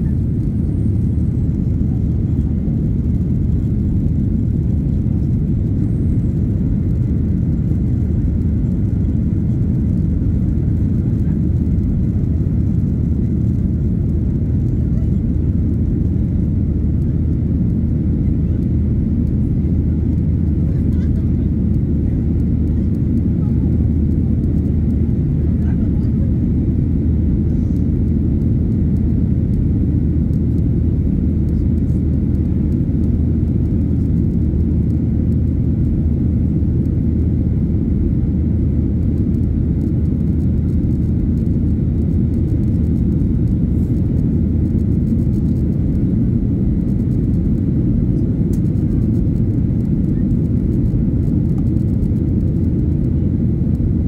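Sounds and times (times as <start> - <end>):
airplane engines rumbling in cabin: 0.0 - 54.0.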